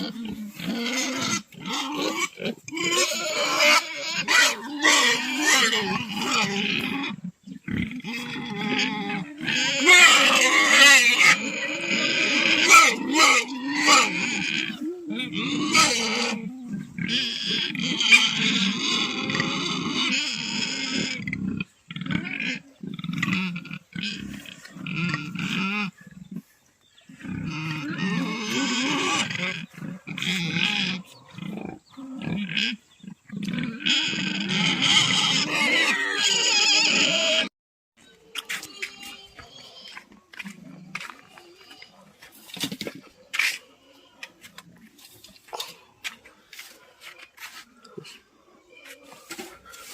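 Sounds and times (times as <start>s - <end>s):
pigs grunting: 0.0s - 37.5s, 38.3s - 49.9s
pigs squealing: 0.0s - 37.5s, 38.2s - 44.9s.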